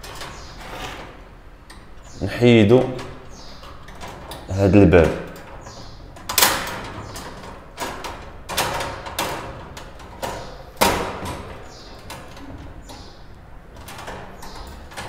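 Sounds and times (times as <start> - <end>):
birdcage door rattling: 0.0 - 15.0.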